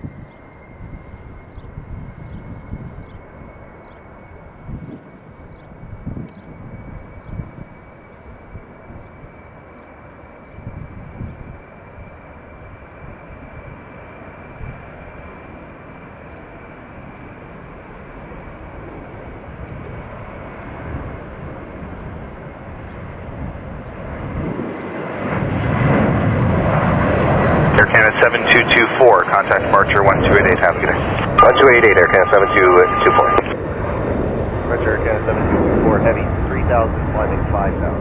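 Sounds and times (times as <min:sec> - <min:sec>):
jet engines at takeoff power: 0:00.0 - 0:38.0.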